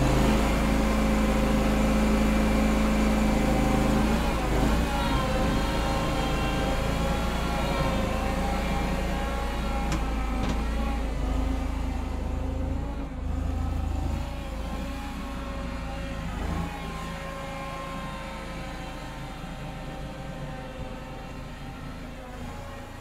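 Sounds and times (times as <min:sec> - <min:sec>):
loader engine whine and rumble: 0:00.0 - 0:23.0.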